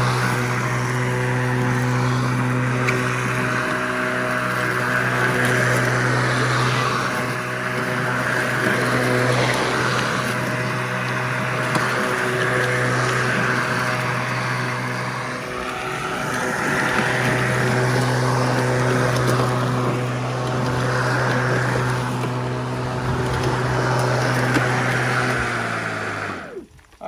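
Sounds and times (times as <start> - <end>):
mower blade whooshing: 0.0 - 26.7
electric lawn mower motor hum: 0.0 - 26.8.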